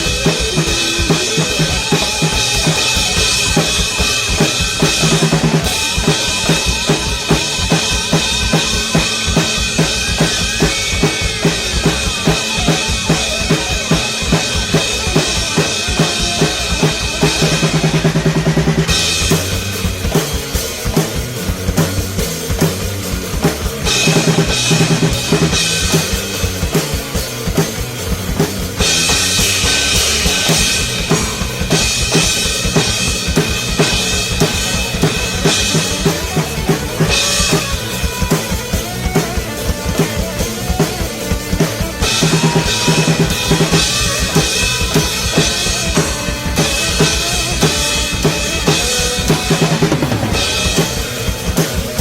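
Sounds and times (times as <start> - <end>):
drum kit played fast: 0.0 - 52.0
recorded metal music track: 0.0 - 52.0.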